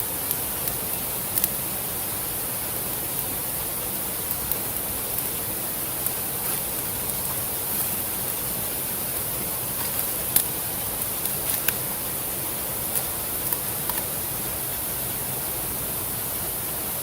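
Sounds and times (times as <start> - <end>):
campfire crackling and popping: 0.0 - 16.2
fire rushing hiss: 0.0 - 17.0.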